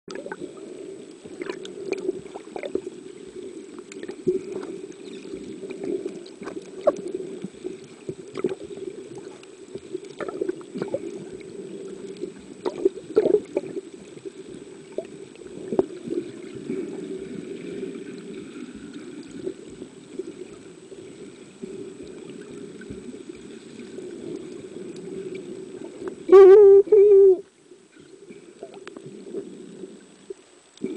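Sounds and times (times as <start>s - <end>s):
muffled underwater water rush: 0.1s - 30.9s.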